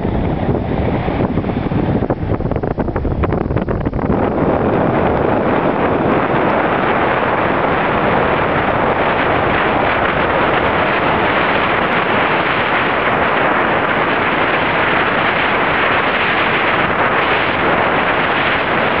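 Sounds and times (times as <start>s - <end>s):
wind and sea rushing: 0.0s - 19.0s.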